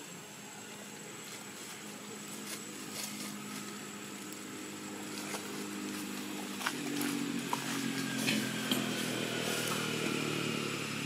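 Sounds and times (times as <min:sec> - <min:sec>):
distant vehicle engine running: 0:00.0 - 0:11.0.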